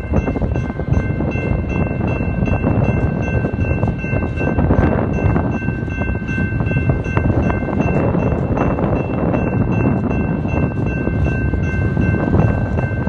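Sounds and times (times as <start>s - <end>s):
crossing bell ringing: 0.0s - 13.0s
freight train rumbling past: 0.0s - 13.0s
wind noise on microphone: 0.0s - 13.0s.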